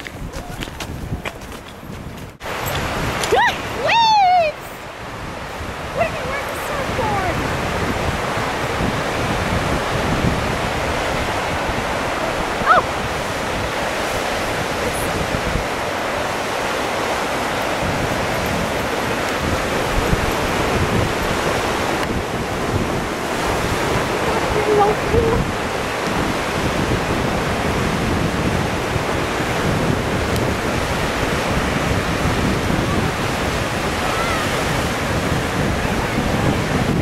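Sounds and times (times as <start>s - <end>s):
wind on microphone: 0.0s - 37.0s
waves breaking on shore: 2.3s - 37.0s.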